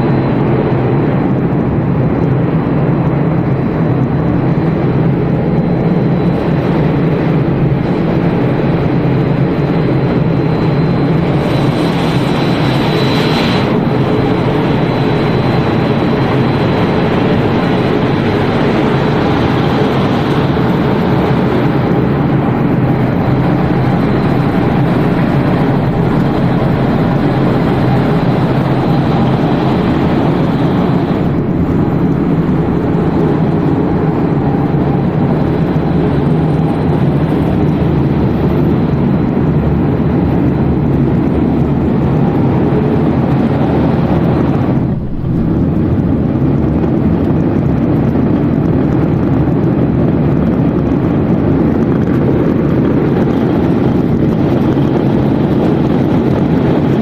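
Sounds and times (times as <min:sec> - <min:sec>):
hum and rumble of motors and conveyors: 0:00.0 - 0:57.0.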